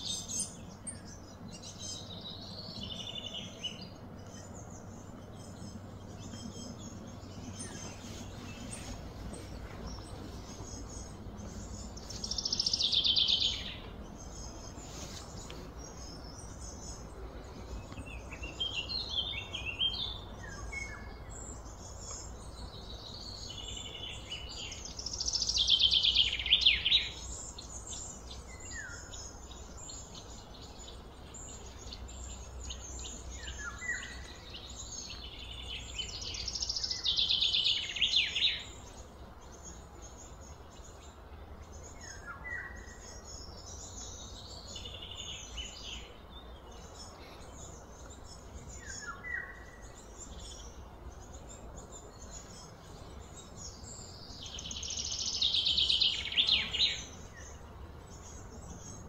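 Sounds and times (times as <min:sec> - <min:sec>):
bird chirps: 0:00.0 - 0:59.0
outdoor background hiss: 0:00.0 - 0:59.0.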